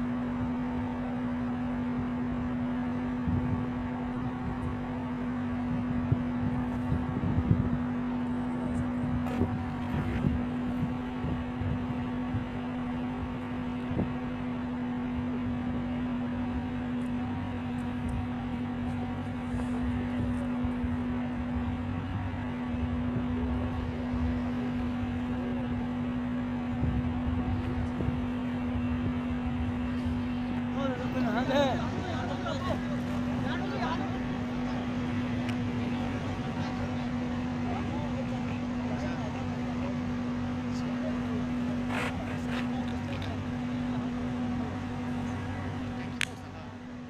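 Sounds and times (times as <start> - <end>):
constant low hum: 0.0 - 47.0.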